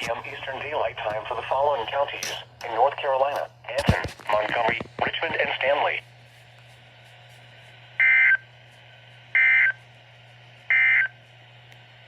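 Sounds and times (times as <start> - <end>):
faint steady radio hum: 0.0 - 11.2.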